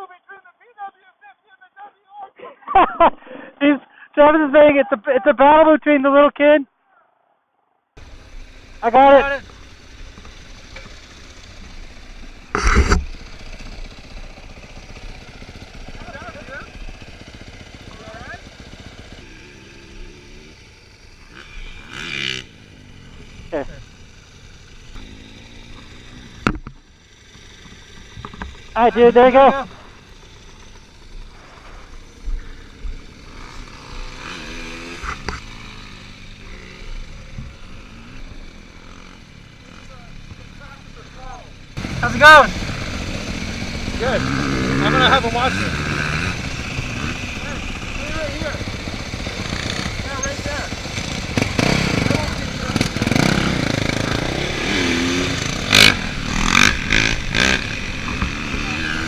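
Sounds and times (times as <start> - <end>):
dirt bike engines rumbling: 1.7 - 7.0, 8.0 - 59.0.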